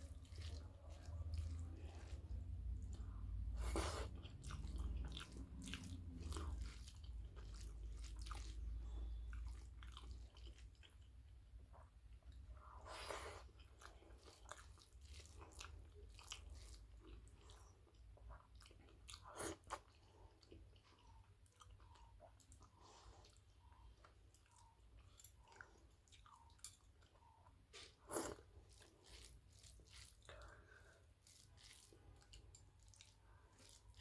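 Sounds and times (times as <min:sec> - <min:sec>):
chewing with wet smacks: 0:00.0 - 0:34.0.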